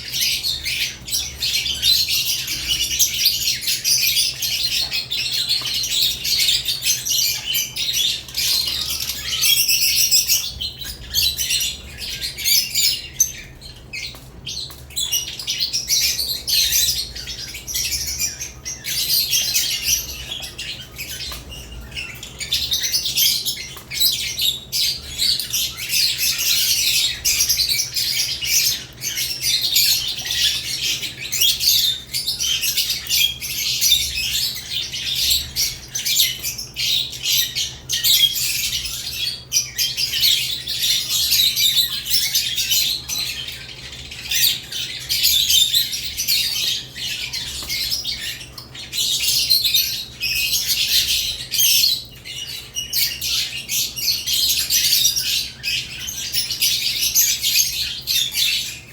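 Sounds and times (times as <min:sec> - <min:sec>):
lovebirds chirping and chattering: 0:00.0 - 0:58.9.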